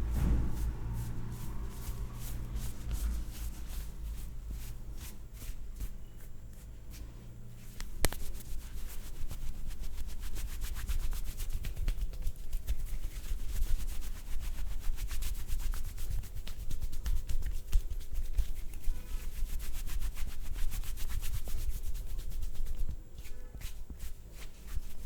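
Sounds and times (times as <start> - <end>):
hands rubbing over skin: 0.1 - 25.0.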